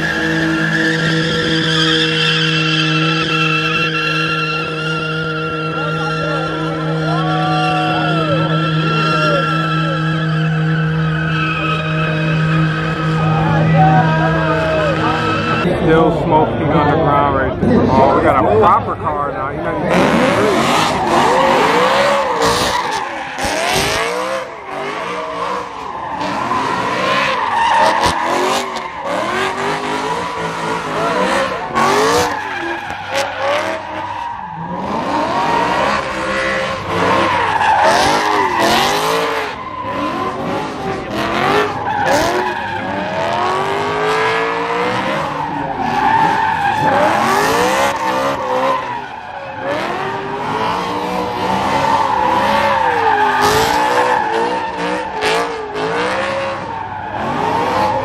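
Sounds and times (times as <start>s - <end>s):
tyres squealing: 0.0s - 15.7s, 19.9s - 58.0s
car engine revving: 0.0s - 58.0s.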